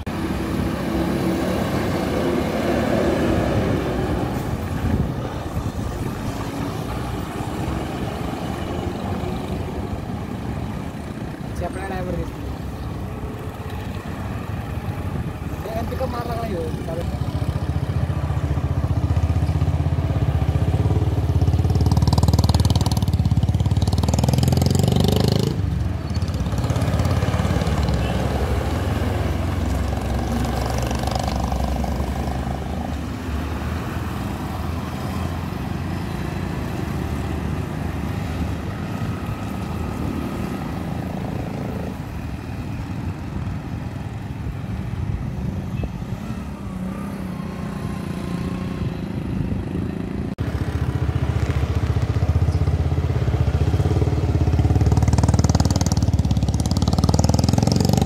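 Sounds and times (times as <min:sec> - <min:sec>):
bus engine running low: 0:00.0 - 0:57.8
passing motorcycles and cars: 0:00.0 - 0:58.0.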